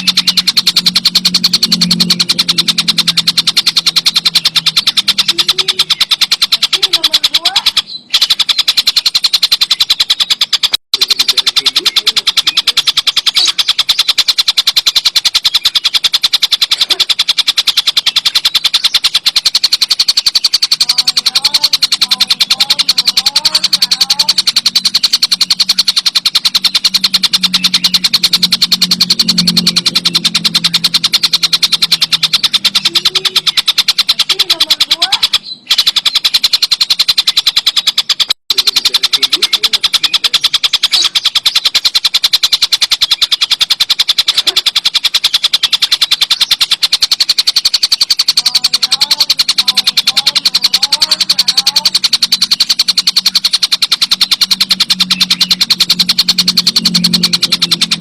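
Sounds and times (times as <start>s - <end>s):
kingfisher rapid rattling call: 0.0s - 58.0s.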